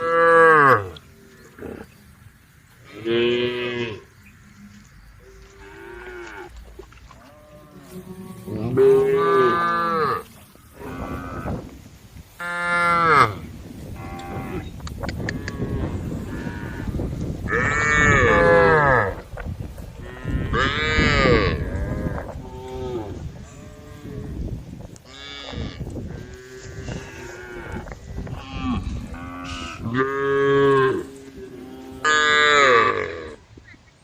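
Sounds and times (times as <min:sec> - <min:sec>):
cows mooing: 0:00.0 - 0:02.0, 0:02.8 - 0:11.7, 0:14.0 - 0:19.2, 0:20.0 - 0:24.4, 0:25.0 - 0:33.4.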